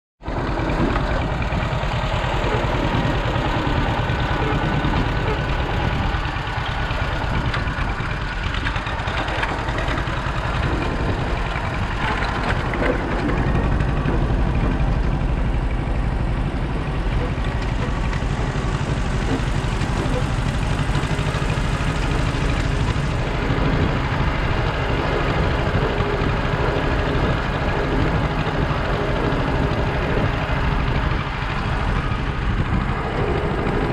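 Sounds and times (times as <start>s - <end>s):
engine running at low revs: 0.2s - 33.9s.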